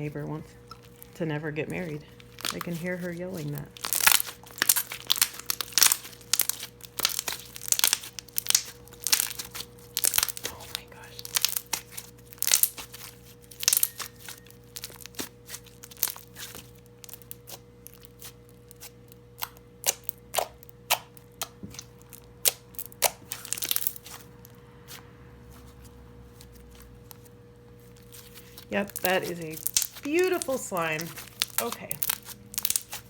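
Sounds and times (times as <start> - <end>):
slime popping and crackling: 1.8 - 24.3, 28.0 - 33.0.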